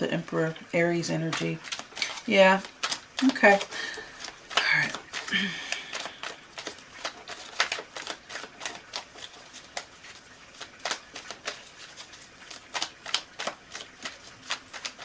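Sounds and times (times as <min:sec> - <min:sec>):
cards being shuffled: 0:01.2 - 0:15.0.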